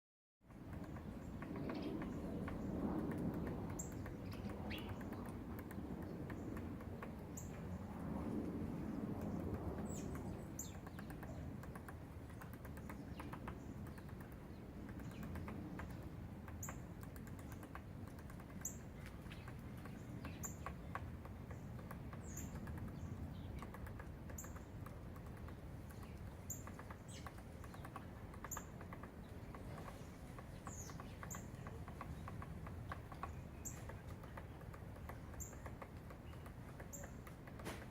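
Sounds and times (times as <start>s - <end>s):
woodpecker tapping on wood: 0.5s - 8.0s, 8.7s - 37.9s.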